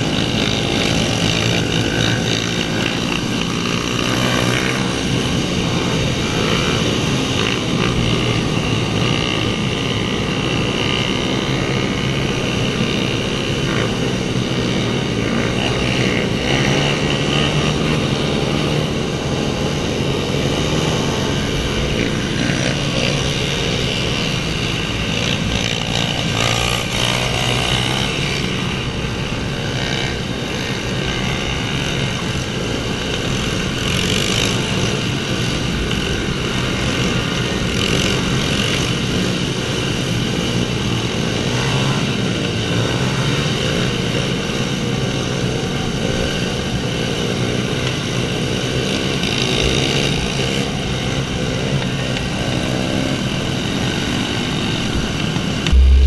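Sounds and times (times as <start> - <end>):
pit bike engines revving: 0.0 - 56.0.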